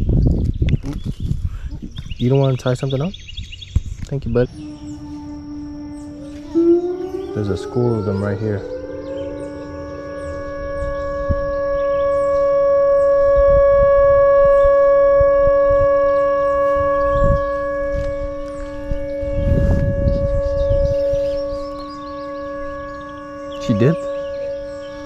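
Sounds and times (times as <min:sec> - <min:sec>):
faint bird chirps: 0:00.0 - 0:13.5, 0:15.8 - 0:25.0
low thumps: 0:03.8 - 0:25.0
warning siren chord: 0:04.3 - 0:25.0.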